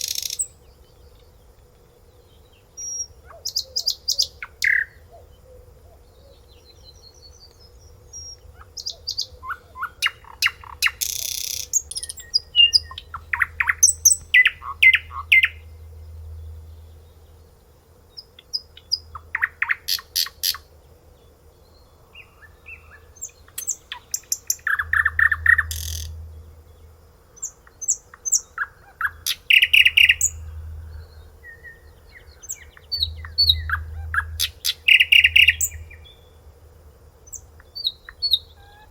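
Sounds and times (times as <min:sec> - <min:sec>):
songbird trilling: 0:00.0 - 0:00.8, 0:02.8 - 0:17.4, 0:18.1 - 0:20.7, 0:22.2 - 0:26.8, 0:27.4 - 0:36.4, 0:37.3 - 0:38.9.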